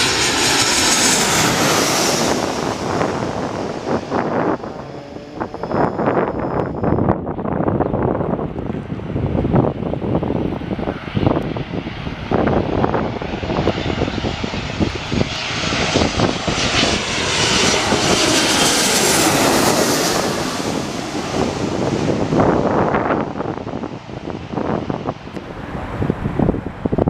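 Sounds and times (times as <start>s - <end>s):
airliner engine passing by: 0.0s - 27.0s
wind buffeting microphone: 0.0s - 27.0s.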